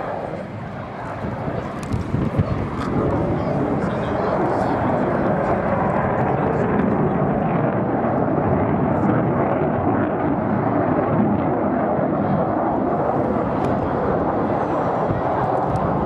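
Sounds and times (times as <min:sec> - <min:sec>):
fighter jet flying overhead: 0:00.0 - 0:16.0.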